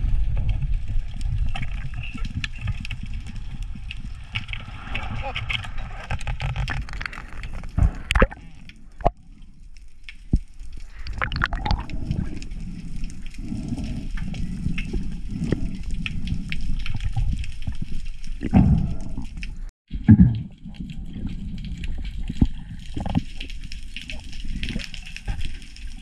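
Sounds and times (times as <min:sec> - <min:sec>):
underwater sloshing and gurgling: 0:00.0 - 0:26.0.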